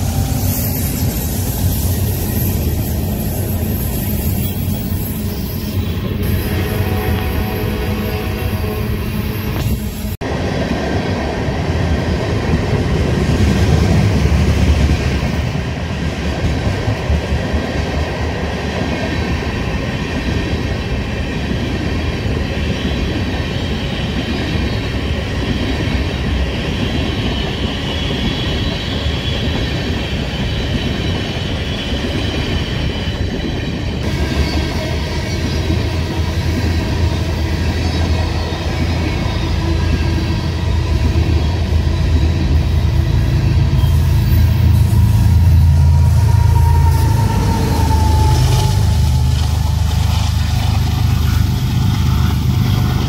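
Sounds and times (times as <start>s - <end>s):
high squeal of train wheels: 0.0s - 10.2s, 18.3s - 53.0s
freight train rolling past: 0.0s - 53.0s.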